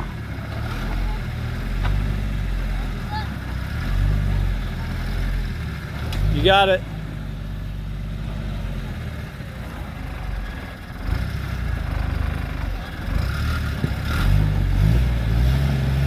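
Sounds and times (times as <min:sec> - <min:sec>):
vehicle engine at low revs: 0:00.0 - 0:16.0.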